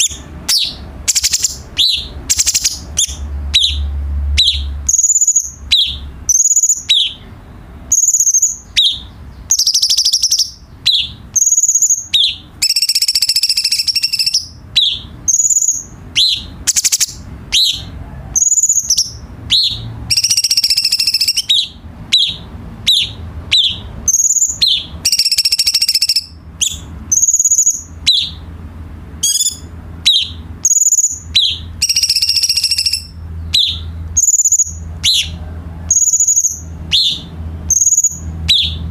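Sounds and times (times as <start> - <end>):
songbird whistling: 0.0 - 28.5, 29.2 - 38.9.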